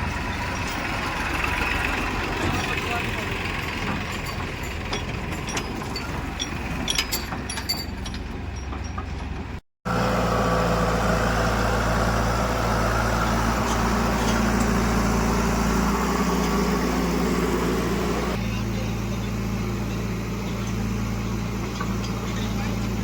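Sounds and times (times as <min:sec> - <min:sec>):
heavy machinery diesel engine: 0:00.0 - 0:23.0.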